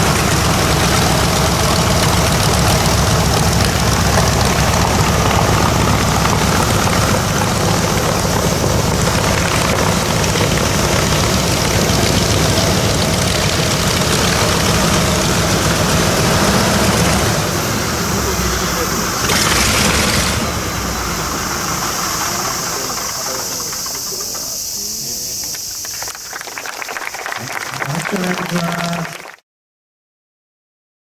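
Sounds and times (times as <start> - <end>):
radial aircraft engine running: 0.0 - 26.2.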